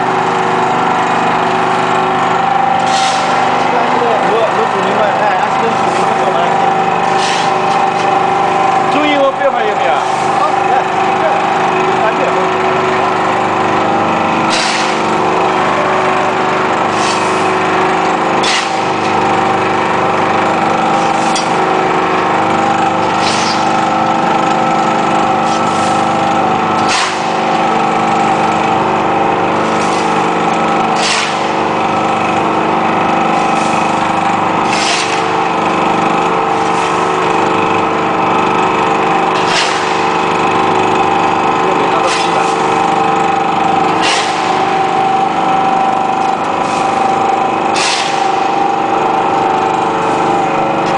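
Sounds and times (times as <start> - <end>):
hydraulic press hum: 0.0 - 50.9.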